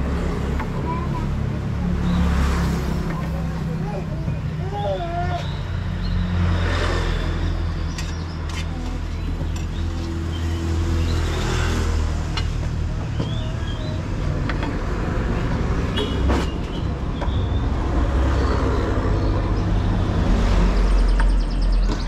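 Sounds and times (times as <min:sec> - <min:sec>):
passing vehicle engines: 0:00.0 - 0:22.0.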